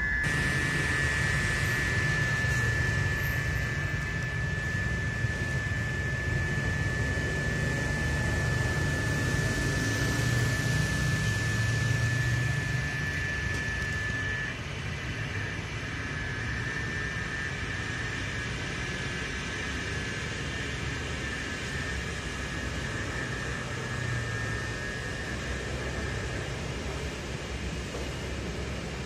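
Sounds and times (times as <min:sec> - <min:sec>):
distant airliner engines rumbling: 0:00.0 - 0:29.0
high whine: 0:00.0 - 0:29.0.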